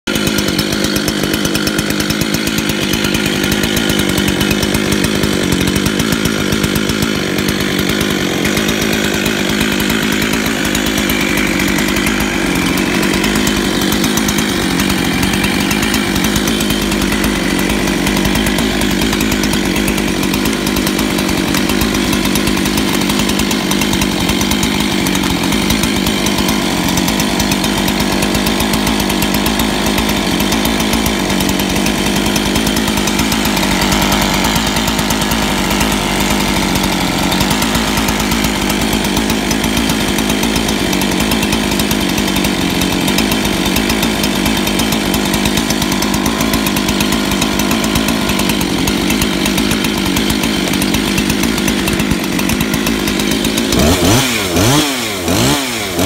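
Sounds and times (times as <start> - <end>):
chainsaw engine idling: 0.0 - 56.0.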